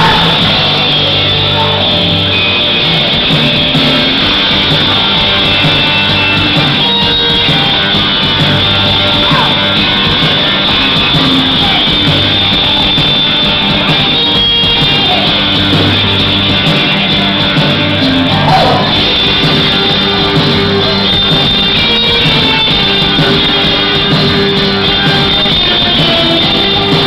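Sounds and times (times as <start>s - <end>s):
live rock band: 0.0s - 27.0s.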